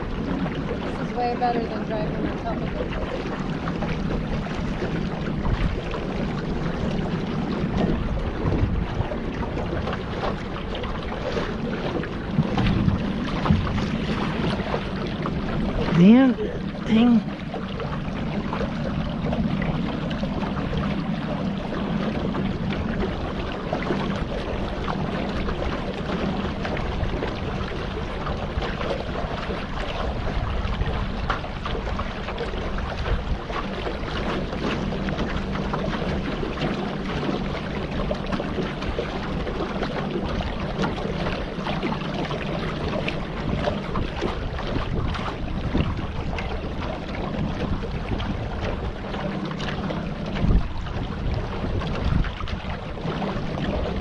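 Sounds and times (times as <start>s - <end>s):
boat motor running: 0.0s - 54.0s
wind on microphone: 0.0s - 54.0s.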